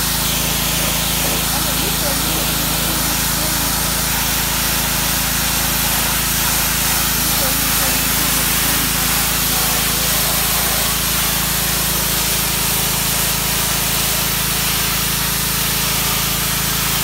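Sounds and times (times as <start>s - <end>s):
pressure washer engine humming: 0.0s - 17.0s
water jet hissing on concrete: 0.0s - 17.0s.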